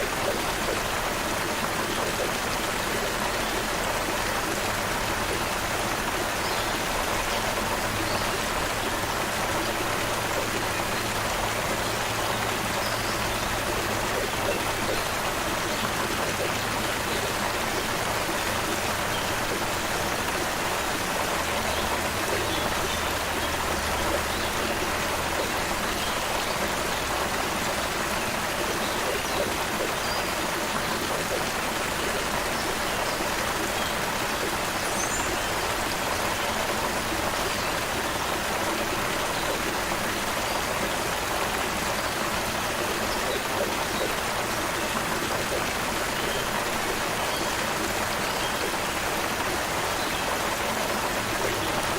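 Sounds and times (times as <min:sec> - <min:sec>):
creek water running over rocks: 0:00.0 - 0:51.9.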